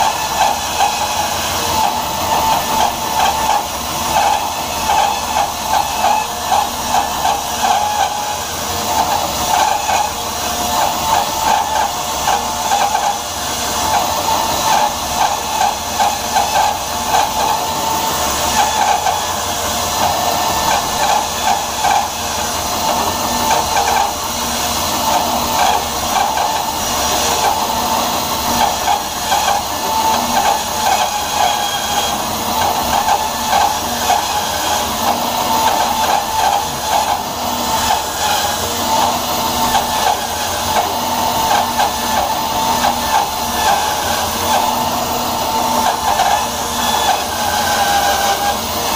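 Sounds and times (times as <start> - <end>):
bandsaw cutting wood: 0.0 - 48.9.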